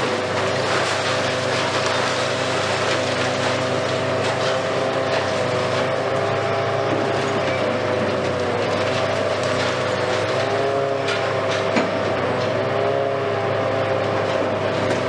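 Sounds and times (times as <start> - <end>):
concrete crackling and rubble falling: 0.0 - 13.0
excavator engine and hydraulics whine: 0.0 - 15.0.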